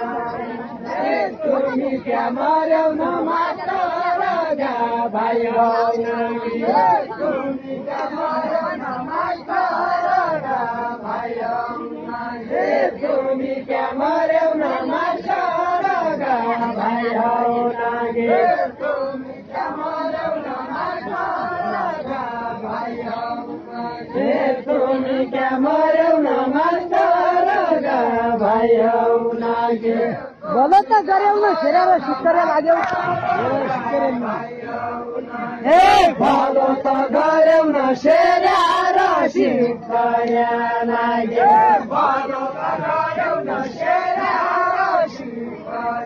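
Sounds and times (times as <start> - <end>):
crowd chanting a song: 0.0 - 46.0.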